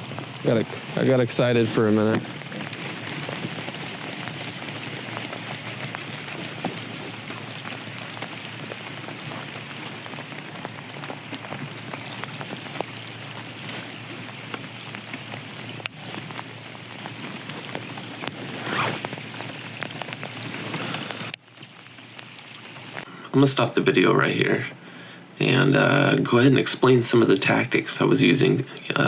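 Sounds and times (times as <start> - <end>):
raindrops ticking close by: 0.0 - 29.0
steady rain: 0.0 - 29.0.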